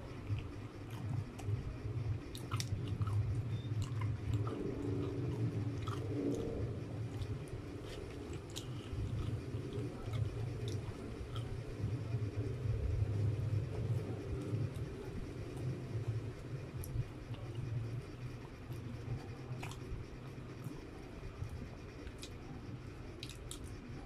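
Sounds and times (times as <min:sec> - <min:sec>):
person chewing with wet smacks: 0:00.0 - 0:24.0
steady low hum: 0:00.0 - 0:24.0.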